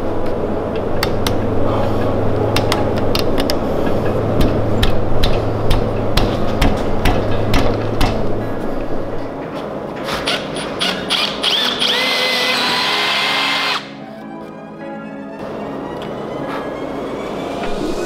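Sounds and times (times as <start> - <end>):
low hum and rushing noise: 0.0 - 18.0.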